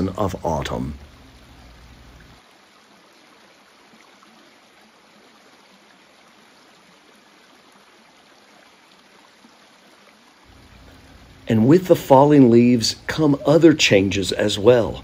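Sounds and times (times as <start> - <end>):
faint stream rushing: 0.0 - 15.0.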